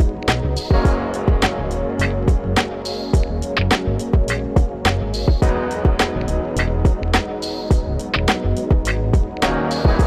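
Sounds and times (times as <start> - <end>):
music with steady drum beat: 0.0 - 10.0.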